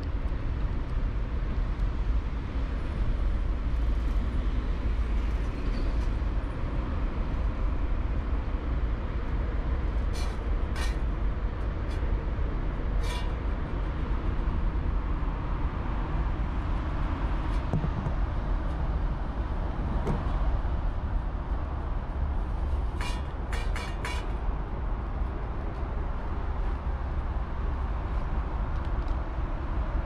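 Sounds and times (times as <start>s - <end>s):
urban traffic rumble: 0.0s - 30.0s.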